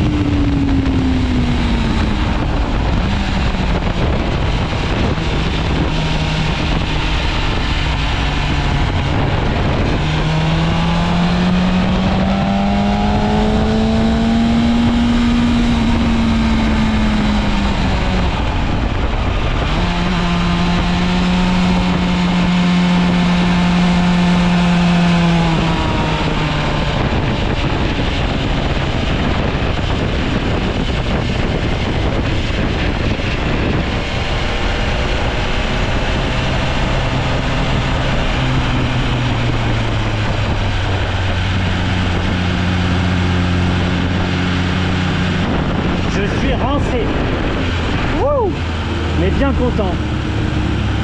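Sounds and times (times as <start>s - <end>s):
motorcycle engine revving: 0.0s - 51.0s
wind rushing over microphone: 0.0s - 51.0s.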